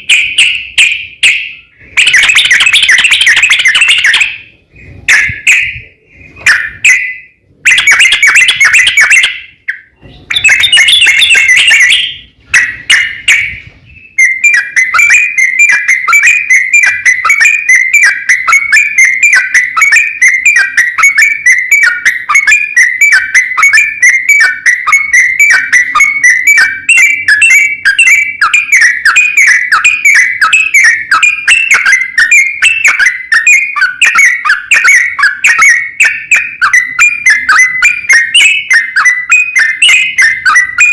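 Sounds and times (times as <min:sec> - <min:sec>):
bulbul song rapid chattering: 0:00.0 - 0:40.9.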